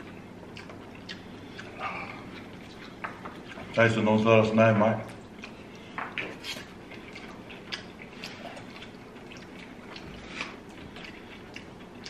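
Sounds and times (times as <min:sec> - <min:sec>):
chewing and wet mouth noises: 0:00.0 - 0:12.0.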